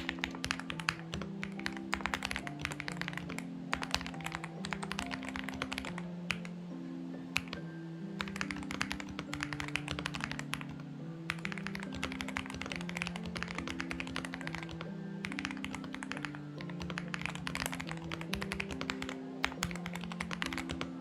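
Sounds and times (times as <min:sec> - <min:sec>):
mechanical keyboard typing: 0:00.0 - 0:06.5, 0:07.4 - 0:07.6, 0:08.2 - 0:20.9
soft background music: 0:00.0 - 0:21.0.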